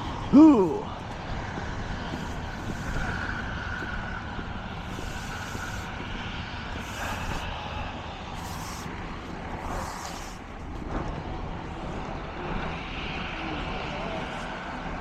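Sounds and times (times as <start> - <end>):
vehicle engines idling: 0.0 - 12.8.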